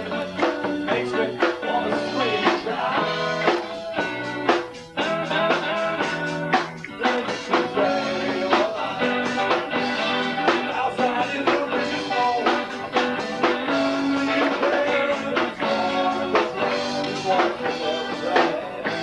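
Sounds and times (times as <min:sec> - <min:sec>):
live rock-blues band: 0:00.0 - 0:19.0.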